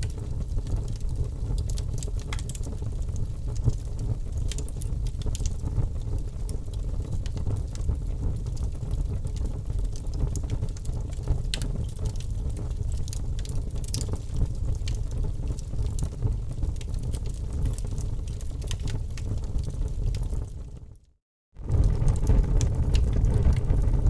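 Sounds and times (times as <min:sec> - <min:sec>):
fire crackling and popping: 0:00.0 - 0:21.0, 0:21.6 - 0:24.0
low rumble of flames: 0:00.0 - 0:24.0.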